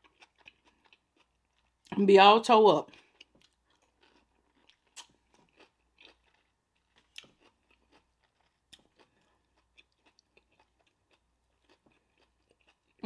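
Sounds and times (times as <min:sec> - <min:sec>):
small chewing crunches: 0:00.0 - 0:02.0, 0:02.8 - 0:13.0.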